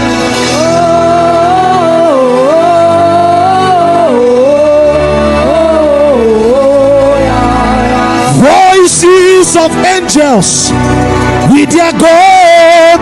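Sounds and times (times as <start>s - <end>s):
low bass notes: 0.0s - 13.0s.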